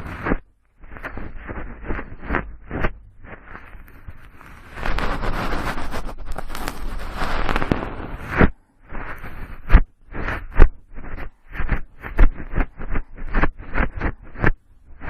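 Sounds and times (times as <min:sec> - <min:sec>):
cotton swab rubbing microphone: 0:00.0 - 0:15.0.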